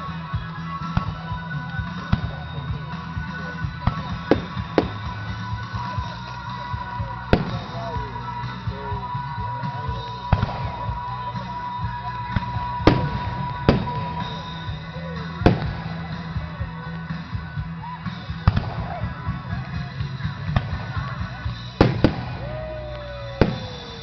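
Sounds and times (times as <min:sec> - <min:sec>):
music with beat and guitar: 0:00.0 - 0:24.0
firework bangs: 0:00.1 - 0:24.0.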